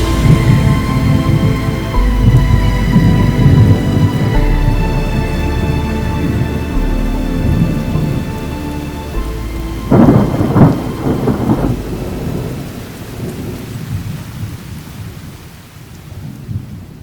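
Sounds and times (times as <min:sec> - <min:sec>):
steady rain: 0:00.0 - 0:17.0
thunder clap rumbling: 0:00.0 - 0:17.0.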